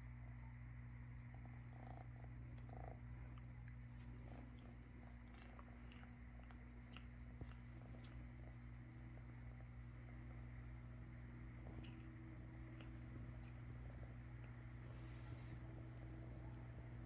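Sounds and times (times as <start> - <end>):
cat purring: 1.2 - 17.0.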